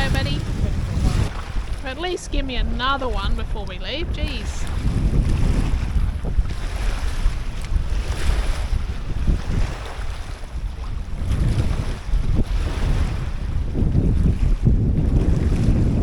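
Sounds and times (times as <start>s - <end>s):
waves washing: 0.0s - 16.0s
wind buffeting microphone: 0.0s - 16.0s.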